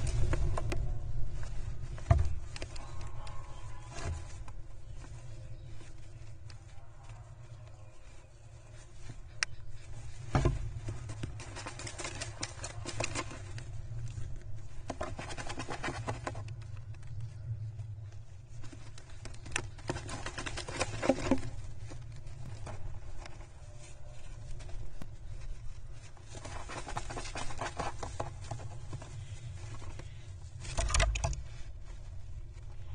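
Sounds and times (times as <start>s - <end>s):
birds scrabbling nest material: 0.0s - 32.9s.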